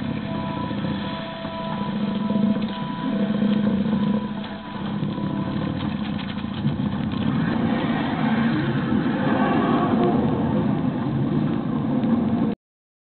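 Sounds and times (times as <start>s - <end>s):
faint steady tones: 0.0s - 12.6s
vehicle running: 0.0s - 12.6s.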